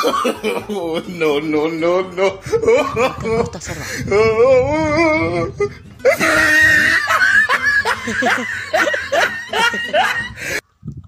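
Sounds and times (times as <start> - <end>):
young man laughing loudly: 0.0 - 10.6.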